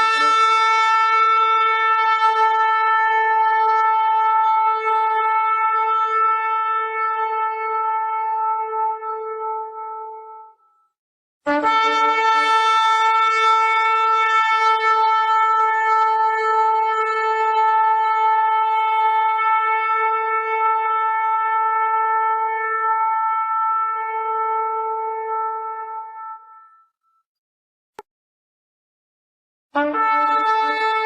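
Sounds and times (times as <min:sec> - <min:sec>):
horn long blast: 0:00.0 - 0:10.4, 0:11.5 - 0:26.7, 0:29.8 - 0:31.0.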